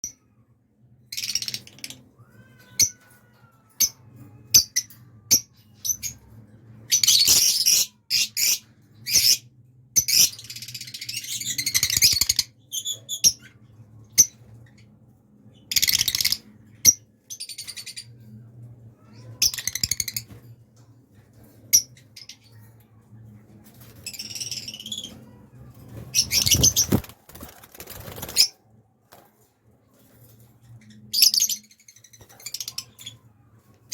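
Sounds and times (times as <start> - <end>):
parrots chirping and chattering: 1.1 - 18.3, 19.0 - 20.5, 21.2 - 22.8, 23.4 - 28.6, 30.3 - 33.9.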